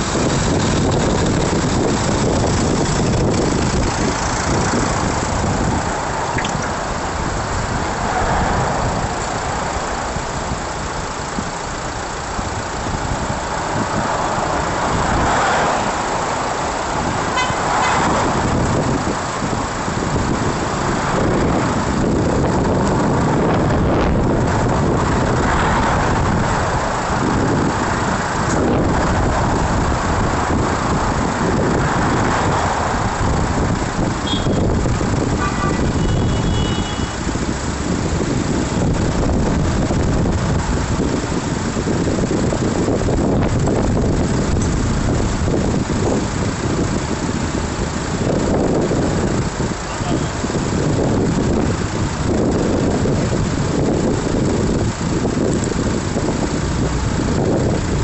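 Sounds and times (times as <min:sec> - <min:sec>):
car engines: 0:00.0 - 0:58.0.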